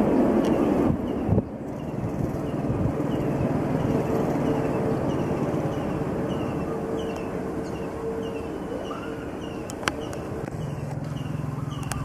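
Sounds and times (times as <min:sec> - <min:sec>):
distant jet engines rumbling: 0:00.0 - 0:12.0
engine whine: 0:00.0 - 0:12.0.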